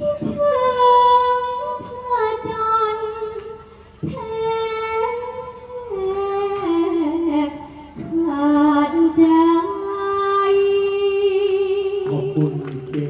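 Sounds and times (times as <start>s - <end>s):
woman singing: 0.0s - 12.5s
lower voice singing: 0.0s - 13.0s.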